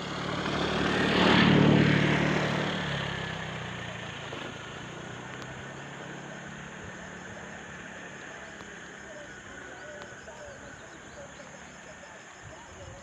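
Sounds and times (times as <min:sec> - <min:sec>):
vehicle passing by: 0:00.0 - 0:12.5.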